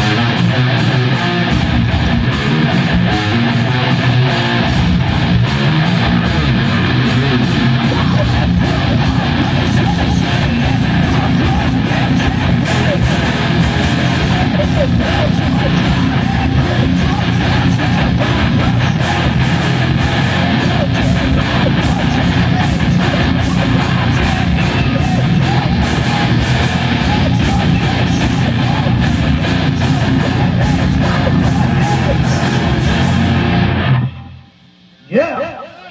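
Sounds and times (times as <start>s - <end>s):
drums pounding: 0.0s - 34.0s
bass guitar: 0.0s - 34.6s
distorted electric guitars: 0.0s - 35.9s.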